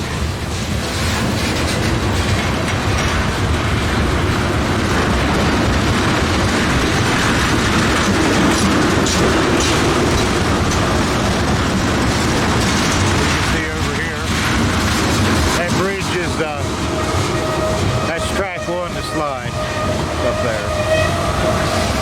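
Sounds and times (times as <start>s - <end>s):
steel wheels on rails: 0.0s - 22.0s.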